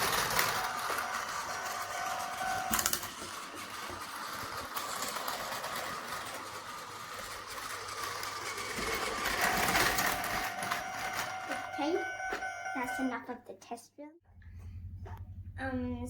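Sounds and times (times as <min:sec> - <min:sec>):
toy train motor whirring: 0:00.0 - 0:13.2.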